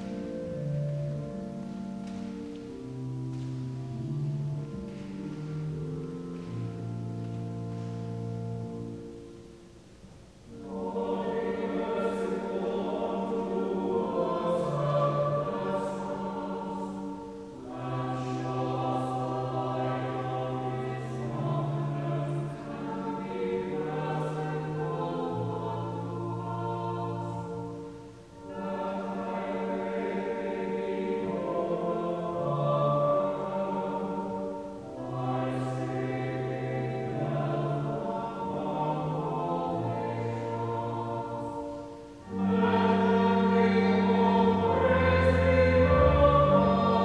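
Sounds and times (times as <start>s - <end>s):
choir singing: 0.0s - 9.6s, 10.4s - 47.0s
sustained organ chords: 0.0s - 47.0s.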